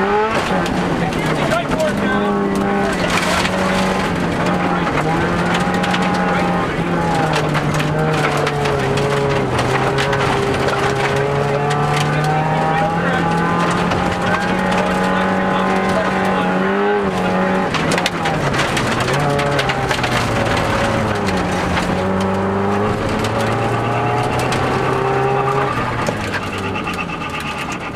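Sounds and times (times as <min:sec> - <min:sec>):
gravel crackling under car: 0:00.0 - 0:27.9
rally car engine from inside: 0:00.0 - 0:27.9.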